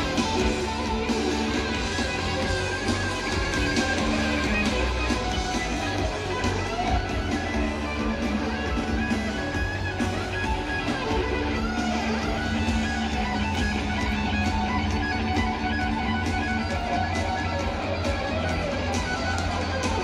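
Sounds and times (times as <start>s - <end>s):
electric guitar: 0.0s - 20.0s
rock band playing live: 0.0s - 20.0s.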